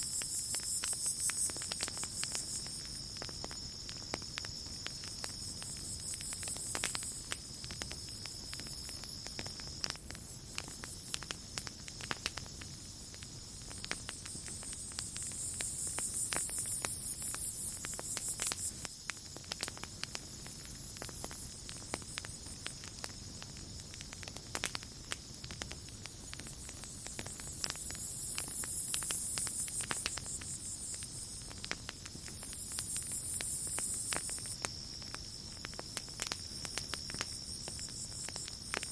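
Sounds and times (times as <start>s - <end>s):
campfire crackling: 0.0s - 38.9s
cricket trill: 0.0s - 38.9s.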